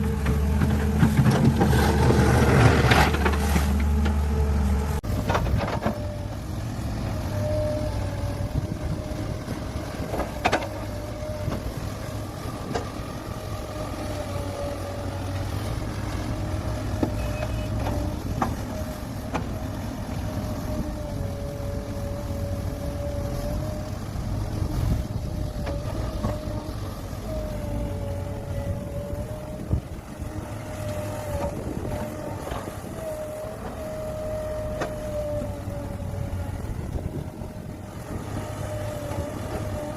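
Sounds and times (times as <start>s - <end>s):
heavy diesel rumble: 0.0s - 39.9s.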